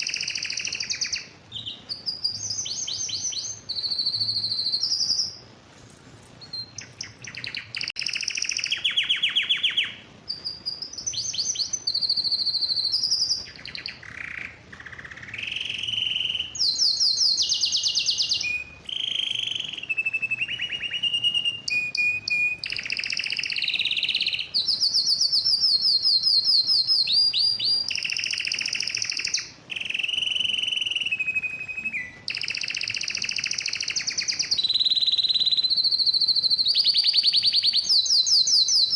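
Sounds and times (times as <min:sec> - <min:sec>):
canary singing trills: 0:00.0 - 0:05.6, 0:06.4 - 0:38.9.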